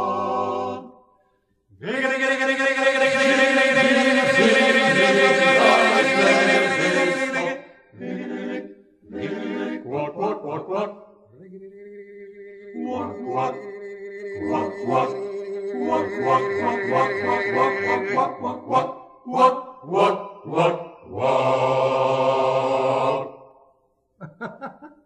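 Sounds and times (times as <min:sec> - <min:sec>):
male choir singing in harmony: 0:00.0 - 0:01.0, 0:01.8 - 0:11.0, 0:12.7 - 0:23.4.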